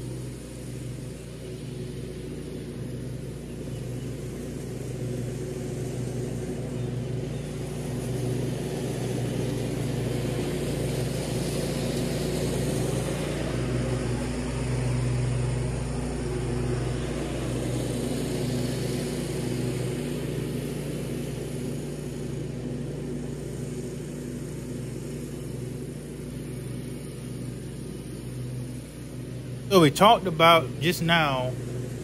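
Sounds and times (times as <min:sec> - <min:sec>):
riding lawn mower engine: 0:00.0 - 0:32.0.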